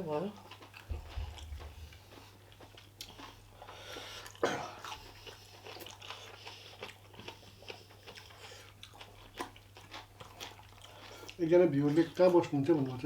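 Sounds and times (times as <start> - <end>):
person chewing and smacking: 0.4 - 13.0.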